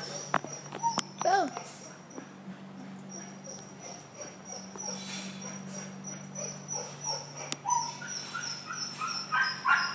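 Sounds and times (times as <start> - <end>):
small dogs whimpering: 0.0 - 2.4, 3.0 - 9.9
steady low hum: 0.0 - 9.9.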